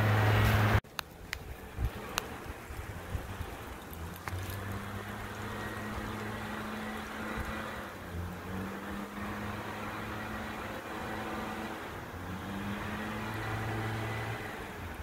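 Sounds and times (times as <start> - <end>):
distant garbage truck engine: 0.0 - 15.0.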